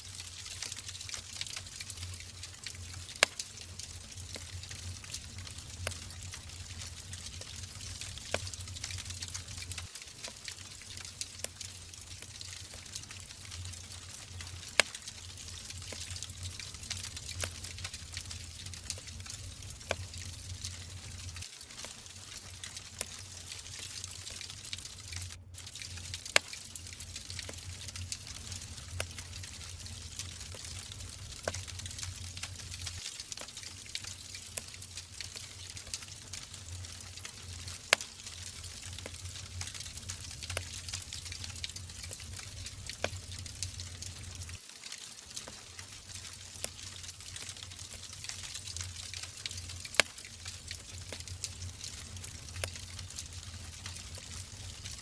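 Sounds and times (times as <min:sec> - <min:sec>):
logs crackling in a fireplace: 0:00.0 - 0:55.0.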